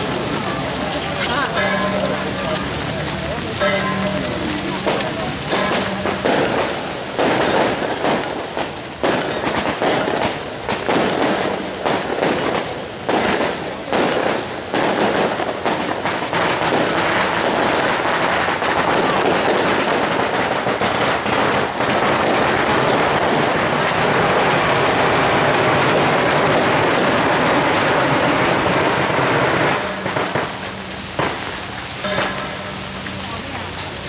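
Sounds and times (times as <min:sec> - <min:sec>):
firecrackers crackling: 0:00.0 - 0:34.0.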